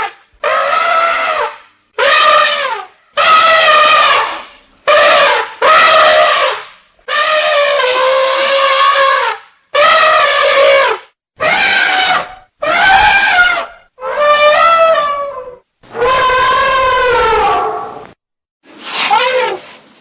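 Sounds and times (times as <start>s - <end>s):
elephant trumpeting: 0.0s - 18.2s, 18.9s - 19.7s.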